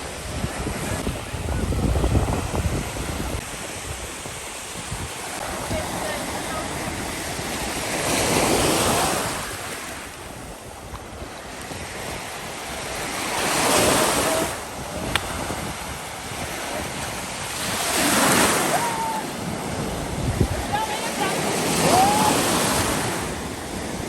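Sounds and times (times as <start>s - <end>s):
lake waves washing onto shore: 0.0s - 24.0s
wind buffeting microphone: 0.0s - 24.0s.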